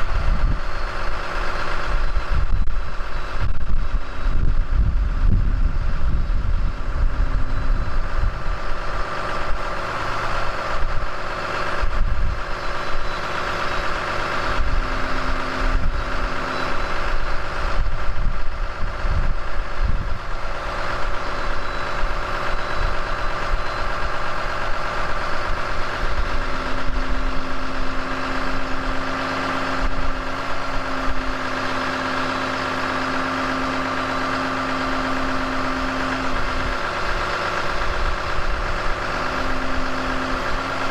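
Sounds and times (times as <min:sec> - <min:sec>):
diesel engine idling: 0:00.0 - 0:40.9
steady hum: 0:00.0 - 0:40.9.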